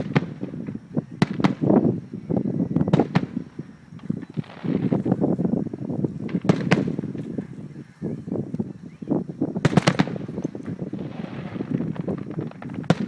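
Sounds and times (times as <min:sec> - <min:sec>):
fireworks banging and crackling: 0:00.0 - 0:13.0
loud firework reports: 0:00.0 - 0:13.0.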